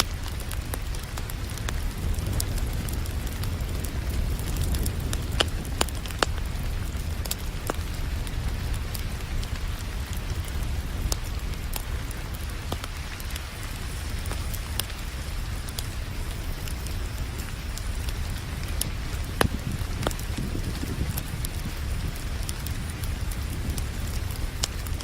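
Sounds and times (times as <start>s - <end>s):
rain hissing: 0.0s - 25.0s
wood fire crackling and popping: 0.0s - 25.0s.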